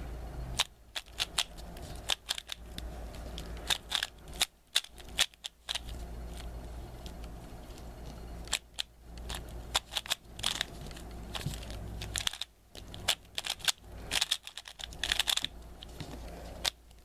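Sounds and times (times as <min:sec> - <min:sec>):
puzzle cube plastic clicking: 0:00.6 - 0:07.4, 0:08.4 - 0:15.9, 0:16.6 - 0:17.0.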